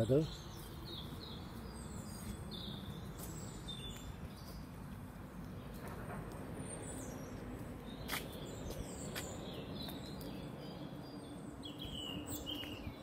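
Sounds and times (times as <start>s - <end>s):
low outdoor background noise: 0.0s - 13.0s
small birds chirping: 0.0s - 13.0s.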